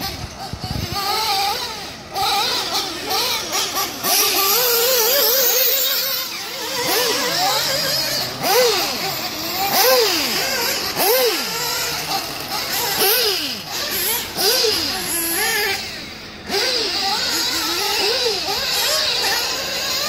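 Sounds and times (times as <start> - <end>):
model engine revving: 0.0 - 20.0.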